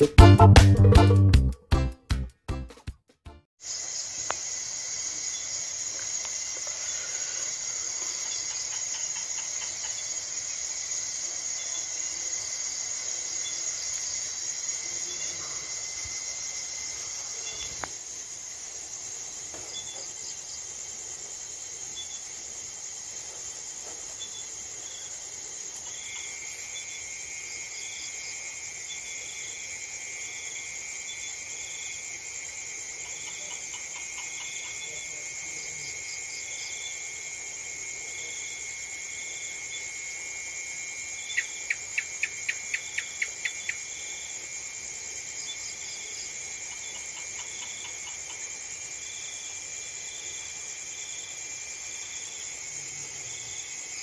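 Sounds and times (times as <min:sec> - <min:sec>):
cricket chirps: 0:03.6 - 0:54.0
insect trill: 0:03.6 - 0:54.0
insects buzzing: 0:03.6 - 0:54.0.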